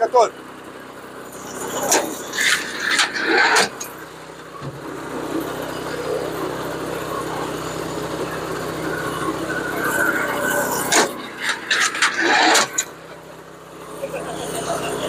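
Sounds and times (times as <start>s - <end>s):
petrol engine running: 0.0s - 15.0s.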